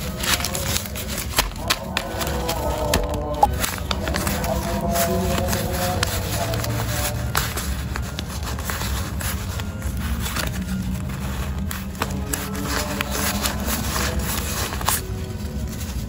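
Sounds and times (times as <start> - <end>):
banknotes rustling: 0.0 - 16.0.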